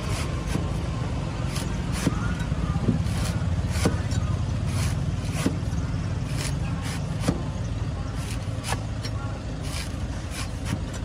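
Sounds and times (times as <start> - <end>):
cleaver chopping coconut husk: 0.0 - 11.0
steady low rumble: 0.0 - 11.0.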